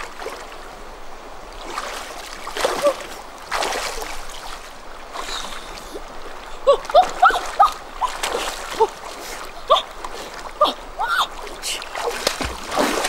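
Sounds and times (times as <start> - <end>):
person wading through water: 0.0 - 13.0.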